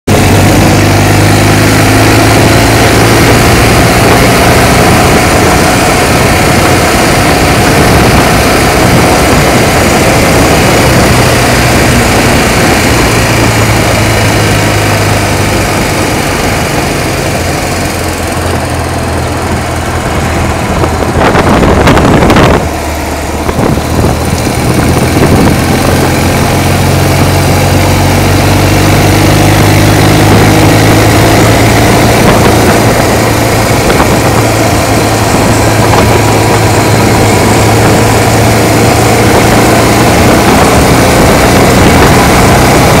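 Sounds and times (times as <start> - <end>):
motorcycle engine running: 0.1 - 43.0
wind and road noise: 0.1 - 43.0.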